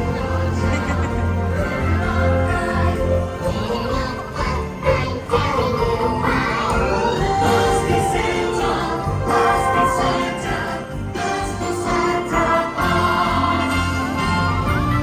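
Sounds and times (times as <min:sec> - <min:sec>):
choir singing: 0:00.0 - 0:15.0
christmas music: 0:00.0 - 0:15.0
sleigh bells ringing: 0:00.0 - 0:15.0.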